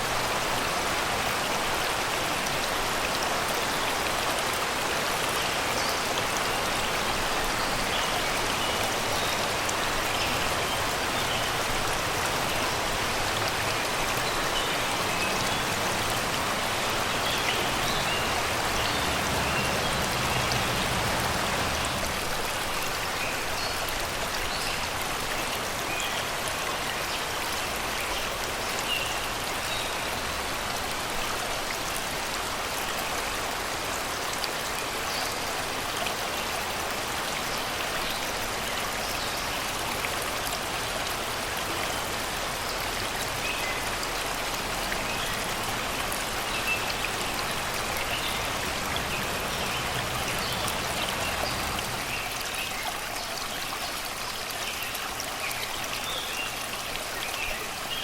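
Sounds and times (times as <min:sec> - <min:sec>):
river babbling over rocks: 0:00.0 - 0:58.0.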